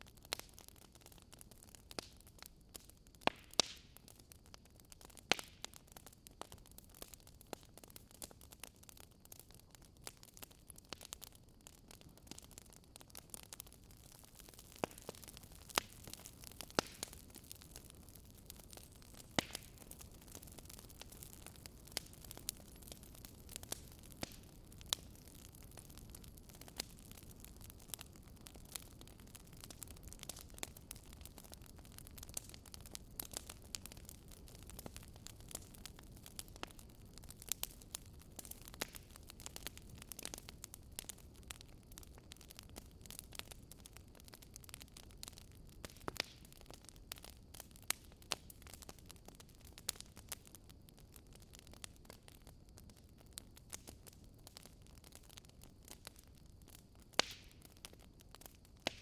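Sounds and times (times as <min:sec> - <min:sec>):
wood campfire crackling: 0:00.0 - 0:59.0.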